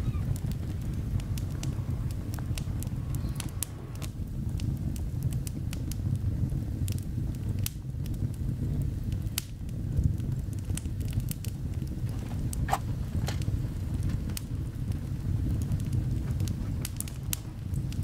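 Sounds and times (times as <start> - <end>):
sharp crackles and ticks: 0.0 - 18.0
steady low rumble: 0.0 - 18.0.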